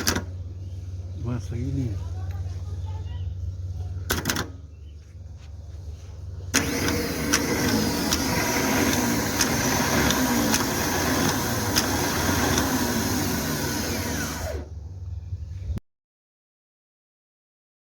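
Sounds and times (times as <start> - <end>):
diesel engine running: 0.0 - 15.6.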